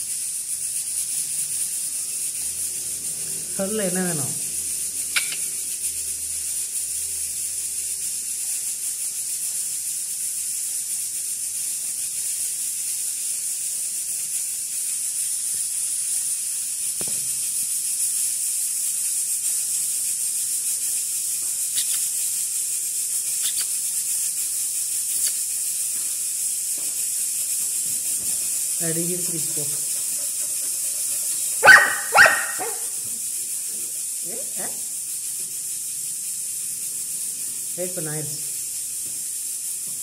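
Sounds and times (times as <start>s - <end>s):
steady high-pitched hiss: 0.0s - 40.0s.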